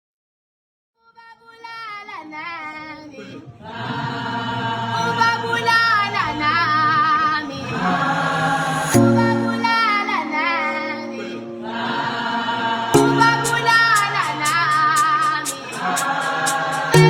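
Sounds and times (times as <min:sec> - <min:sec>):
music with choir singing: 0:02.8 - 0:17.0.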